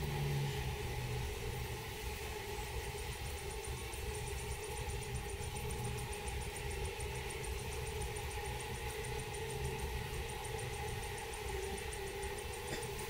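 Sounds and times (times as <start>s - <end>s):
faint fast ticking: 0.0s - 13.0s
low droning hum: 0.0s - 13.0s.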